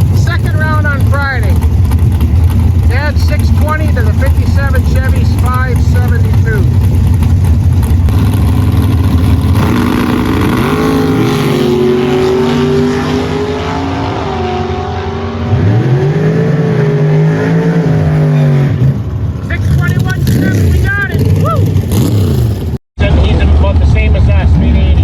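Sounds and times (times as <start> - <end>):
racing car engine at full throttle: 0.0 - 25.0.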